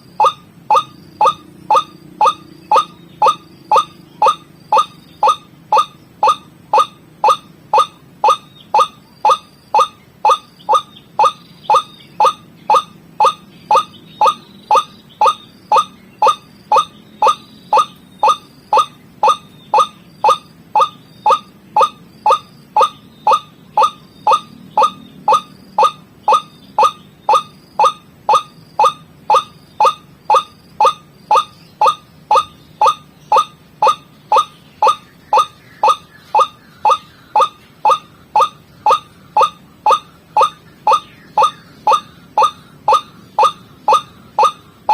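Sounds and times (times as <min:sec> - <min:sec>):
waterhen calling: 0:00.0 - 0:44.9.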